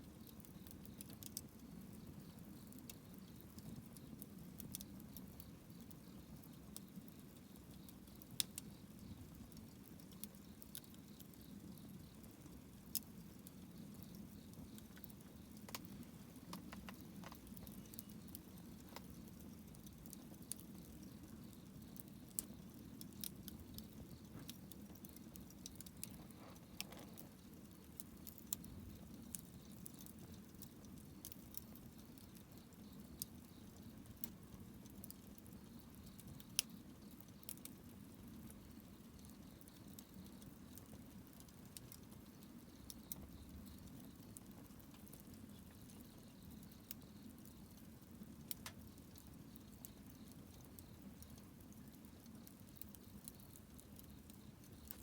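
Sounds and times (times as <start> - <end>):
campfire crackles and pops: 0.0 - 55.0
low rumble of flames: 0.0 - 55.0.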